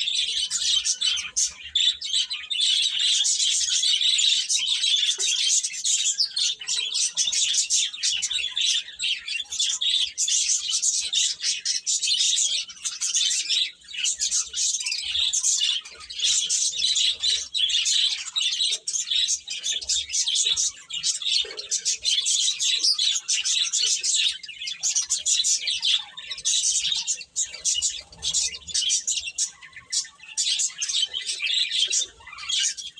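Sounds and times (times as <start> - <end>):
baby chicks peeping: 0.0 - 32.9.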